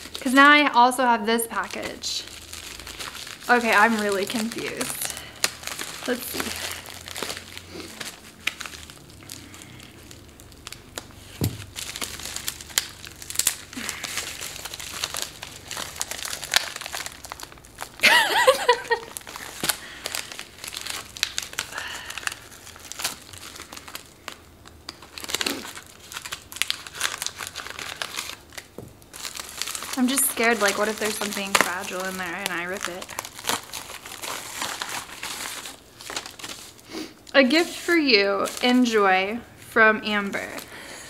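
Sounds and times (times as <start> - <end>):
plastic mailer crinkling: 1.5 - 36.8.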